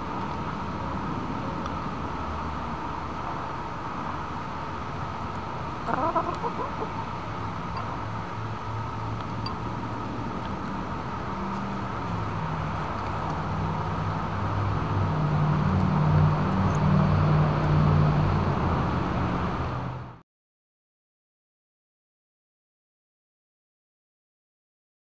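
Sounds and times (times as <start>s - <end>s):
low engine hum: 0.0s - 20.2s.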